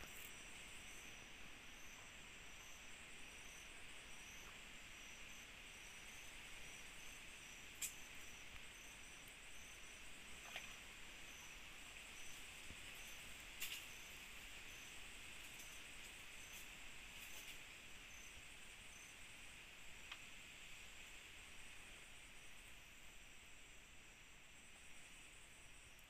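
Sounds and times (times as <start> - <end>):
cricket chirping: 0.0 - 26.0
insects hissing: 0.0 - 26.0.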